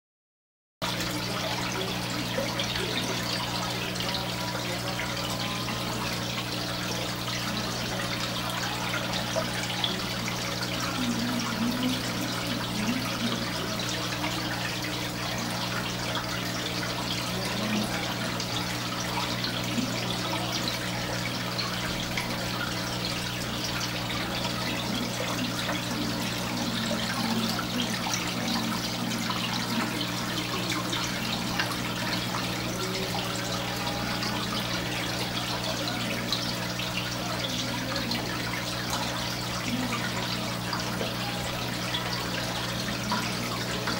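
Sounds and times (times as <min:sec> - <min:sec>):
moving water: 0:00.8 - 0:43.9
low electrical hum: 0:00.9 - 0:43.9.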